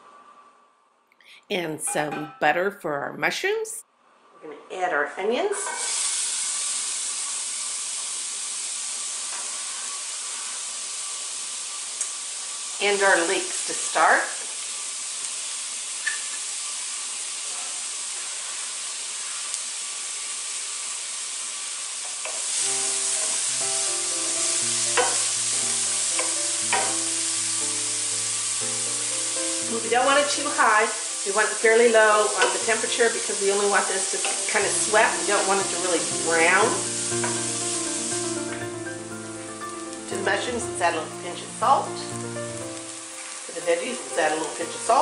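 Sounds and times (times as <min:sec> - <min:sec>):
onions sizzling in hot oil: 0:05.5 - 0:45.0.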